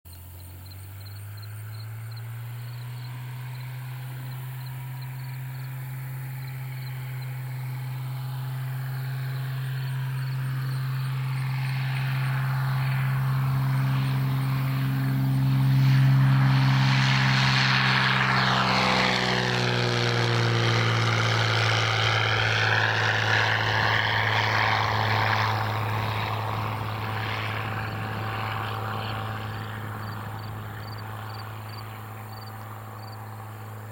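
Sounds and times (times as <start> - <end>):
propeller airplane engine drone: 0.1 - 33.9.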